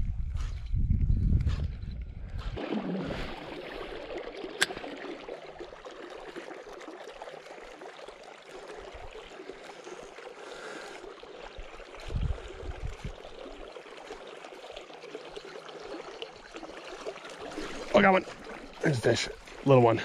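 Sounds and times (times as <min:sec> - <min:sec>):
river water flowing: 0:02.6 - 0:20.0.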